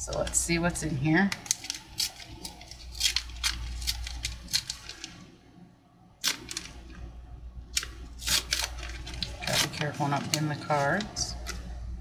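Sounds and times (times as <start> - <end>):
plastic wrapper crinkling: 0.0 - 5.4, 6.2 - 7.1, 7.7 - 11.8.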